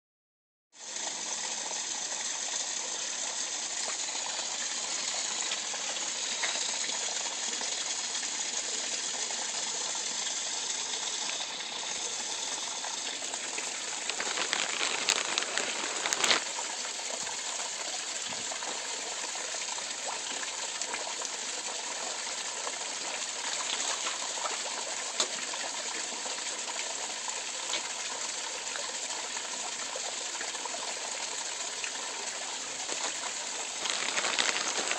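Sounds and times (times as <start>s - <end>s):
water pouring into pond: 0.8s - 34.9s.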